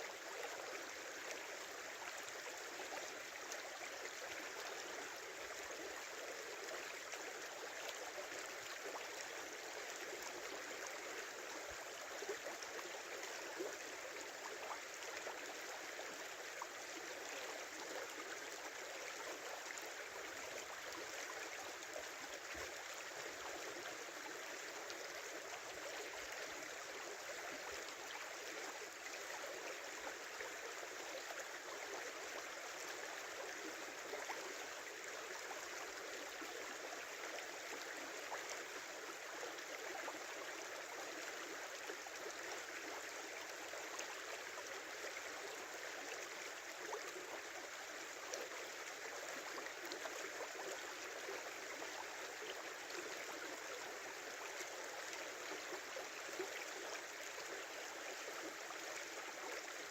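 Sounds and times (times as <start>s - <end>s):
river water babbling: 0.0s - 59.9s.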